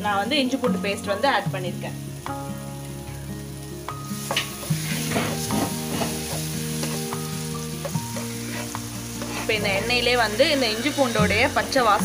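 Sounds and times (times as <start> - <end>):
paste sizzling in hot oil: 1.2 - 12.0.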